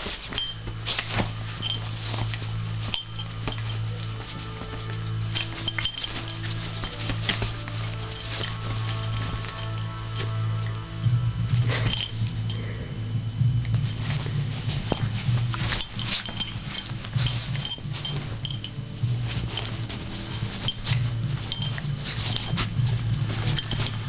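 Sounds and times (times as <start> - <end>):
paws and claws pattering: 0.0 - 12.8, 13.4 - 24.0
collar tags jingling: 0.0 - 12.9, 13.6 - 24.0
low hum: 0.0 - 24.0.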